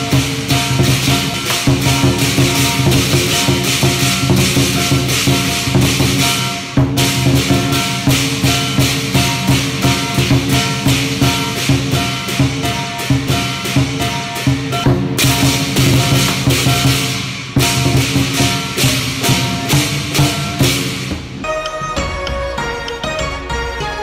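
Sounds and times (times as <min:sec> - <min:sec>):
gong beating: 0:00.0 - 0:21.2
cymbals clashing: 0:00.0 - 0:23.6
drum beating: 0:00.0 - 0:24.0.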